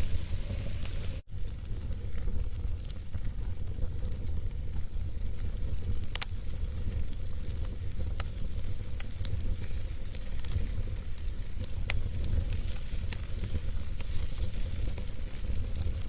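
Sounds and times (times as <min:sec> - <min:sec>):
wood fire burning: 0:00.0 - 0:16.0.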